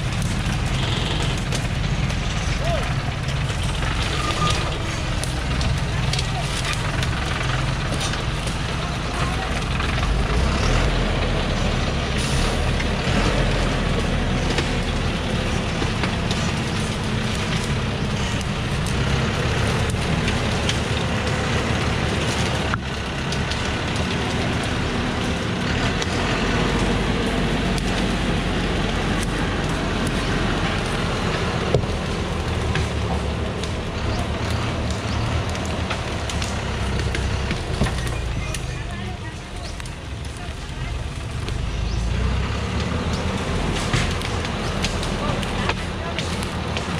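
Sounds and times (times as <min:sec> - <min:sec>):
truck diesel engine running: 0:00.0 - 0:46.9
twigs crackling under tyres: 0:00.0 - 0:46.9.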